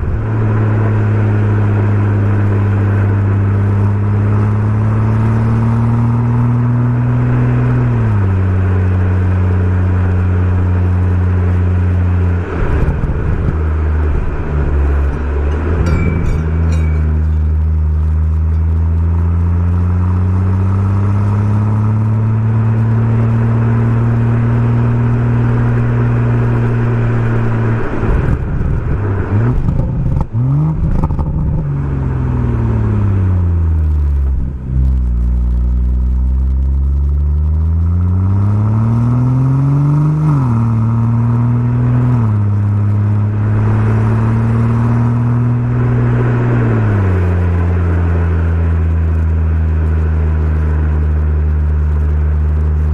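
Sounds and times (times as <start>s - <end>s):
car engine accelerating and shifting: 0.0s - 52.9s
exhaust crackling: 0.0s - 52.9s.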